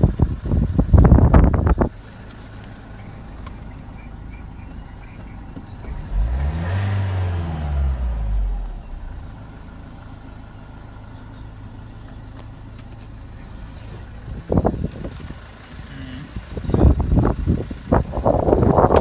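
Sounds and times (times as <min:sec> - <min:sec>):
van engine idling and revving: 0:00.0 - 0:19.0.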